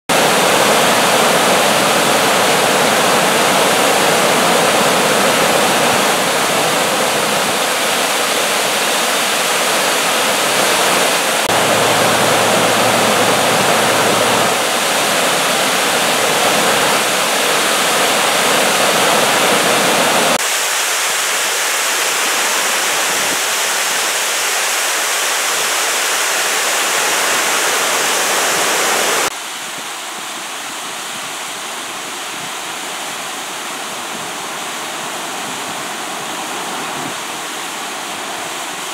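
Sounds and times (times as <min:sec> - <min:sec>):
water rushing over spillway: 0:00.1 - 0:38.9.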